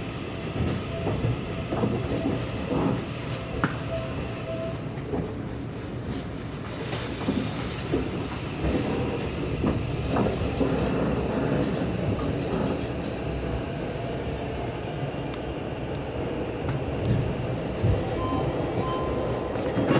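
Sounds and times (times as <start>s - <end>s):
electric train rumbling: 0.0s - 19.9s.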